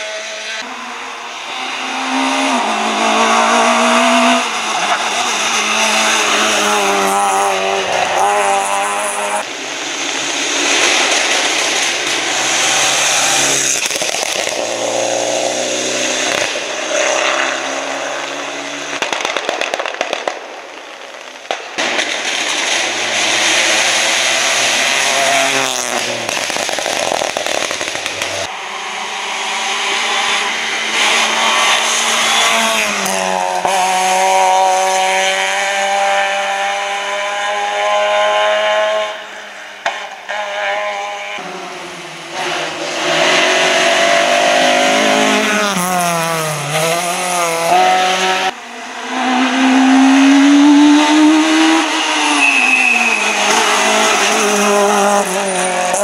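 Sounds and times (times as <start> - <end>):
rally cars passing at speed: 0.0 - 56.0.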